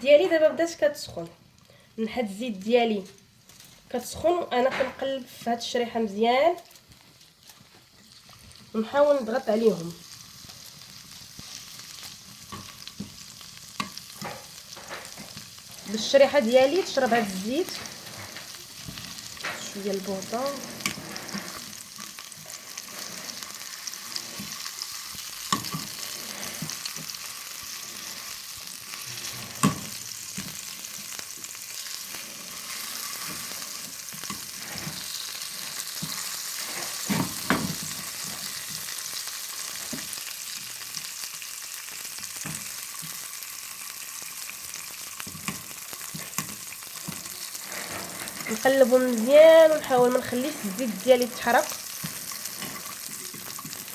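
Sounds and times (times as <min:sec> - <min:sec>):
food sizzling in oil: 0:00.0 - 0:53.9.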